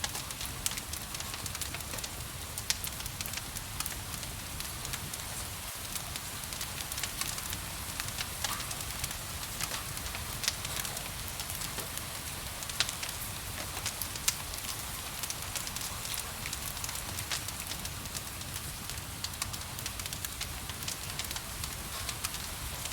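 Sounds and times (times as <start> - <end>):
rain hiss: 0.0 - 22.9
wood fire crackling: 0.0 - 22.9.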